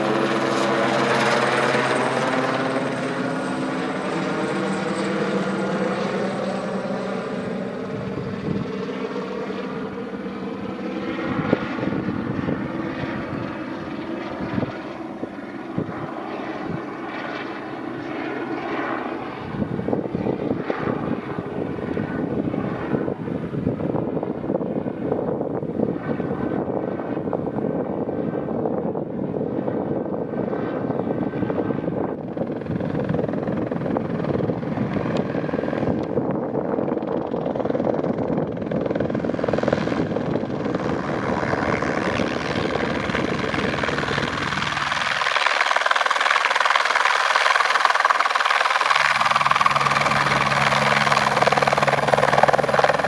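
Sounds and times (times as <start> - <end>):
helicopter flying by: 0.0 - 53.0.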